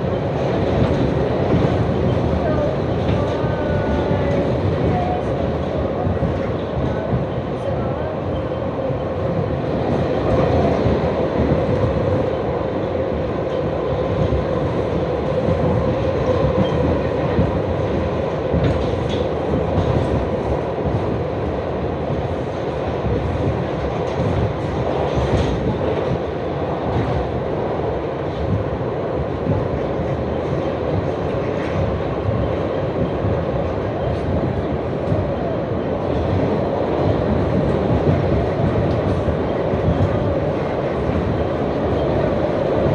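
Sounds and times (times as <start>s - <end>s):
subway train wheels rumbling: 0.0s - 42.9s.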